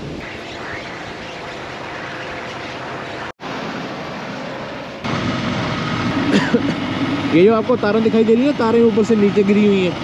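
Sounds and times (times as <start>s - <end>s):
faint engine hum: 0.0s - 10.0s
truck driving noise: 0.0s - 10.0s.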